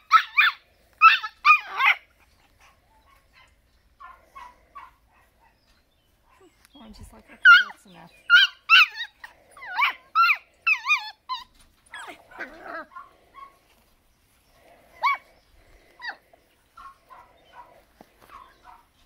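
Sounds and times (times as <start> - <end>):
puppies yipping and whining: 0.0 - 6.6, 7.2 - 19.0.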